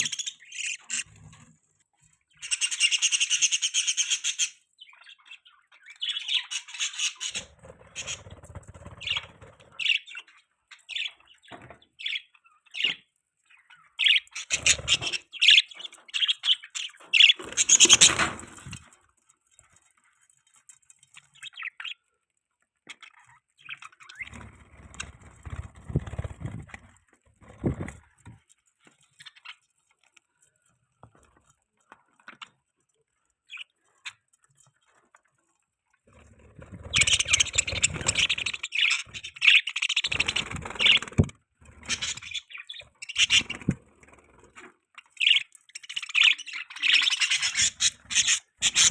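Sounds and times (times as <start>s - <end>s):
budgies chirping and warbling: 0.0s - 48.9s.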